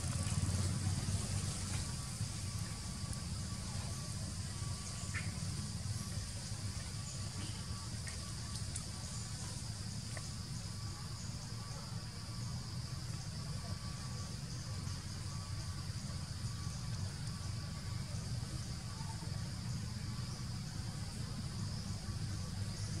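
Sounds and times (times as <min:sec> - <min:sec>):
high insect hum: 0:00.0 - 0:23.0.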